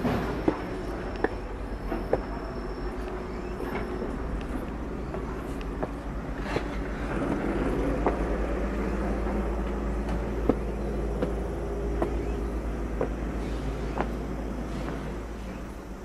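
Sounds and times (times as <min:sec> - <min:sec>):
footsteps on concrete stairs: 0:00.0 - 0:16.0
steady low rumble: 0:00.0 - 0:16.0.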